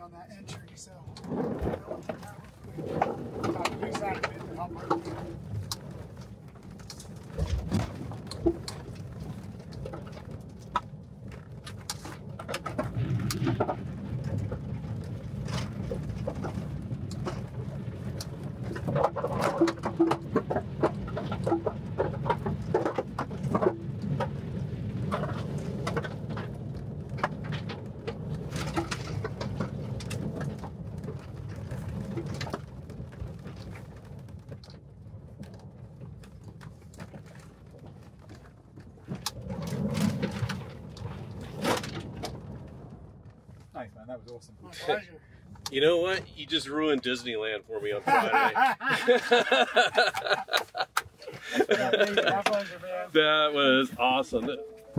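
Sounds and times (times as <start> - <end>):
rumble of tyres and suspension: 0.0 - 54.9.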